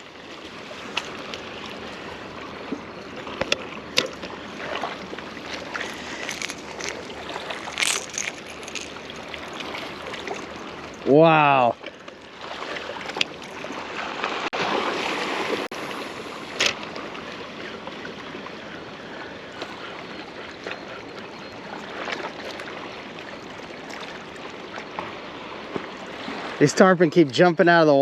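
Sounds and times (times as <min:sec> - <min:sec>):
water noise: 0:00.0 - 0:28.0.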